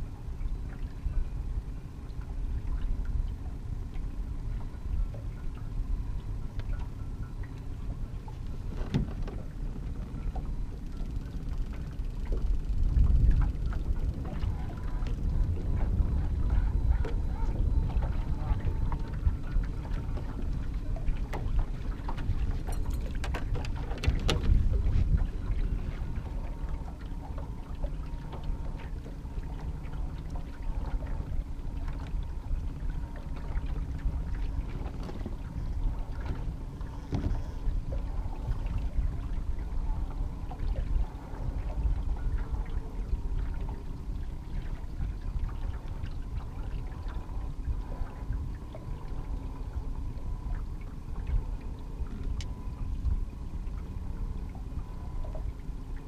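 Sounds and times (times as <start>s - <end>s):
boat motor rumbling: 0.0s - 56.0s
faint steady hum: 0.0s - 56.0s.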